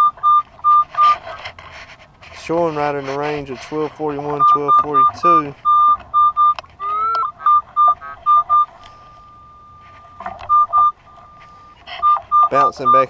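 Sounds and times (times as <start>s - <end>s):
metal detector held tone: 0.0s - 1.4s, 3.9s - 13.0s
metal detector beeping: 0.0s - 1.5s, 3.6s - 13.0s.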